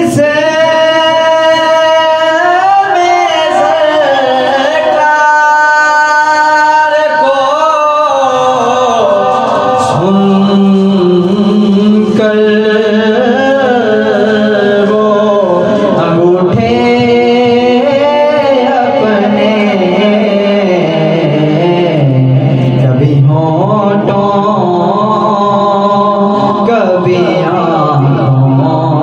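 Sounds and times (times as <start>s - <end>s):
man singing into a microphone: 0.0s - 29.0s.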